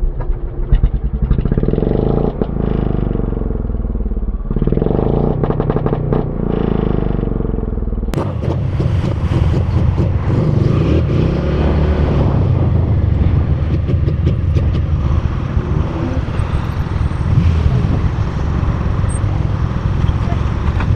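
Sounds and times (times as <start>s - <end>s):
road and wind rumble: 0.0s - 20.9s
vehicle engine running: 0.0s - 20.9s.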